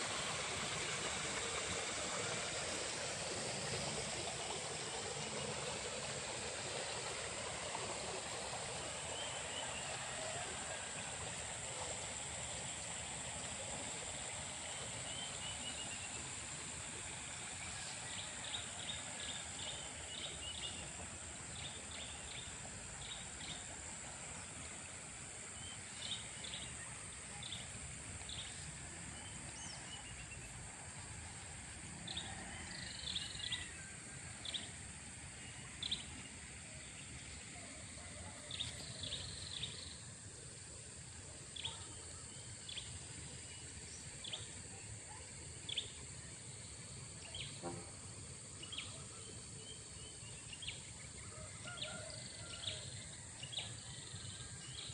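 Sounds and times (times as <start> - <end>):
water flowing in a ditch: 0.0 - 54.9.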